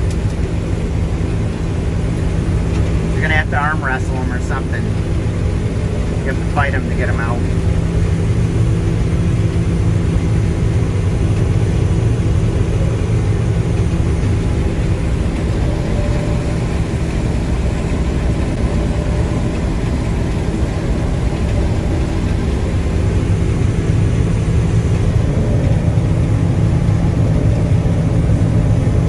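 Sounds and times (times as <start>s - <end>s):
combine harvester engine hum: 0.0s - 29.0s.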